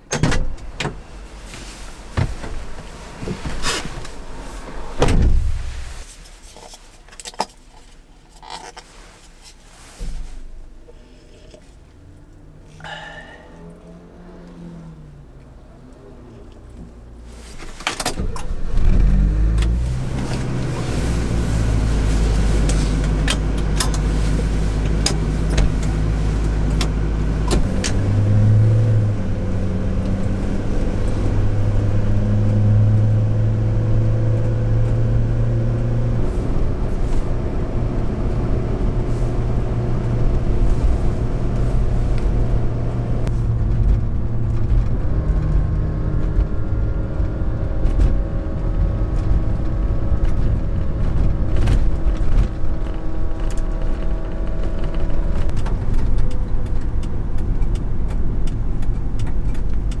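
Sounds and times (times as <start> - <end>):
truck engine driving: 9.8 - 60.0.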